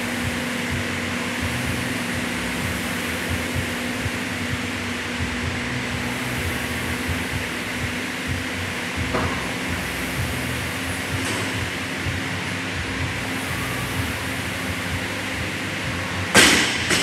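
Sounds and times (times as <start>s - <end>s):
rowing machine fan whirring: 0.0s - 17.0s
steady hum: 0.0s - 17.0s.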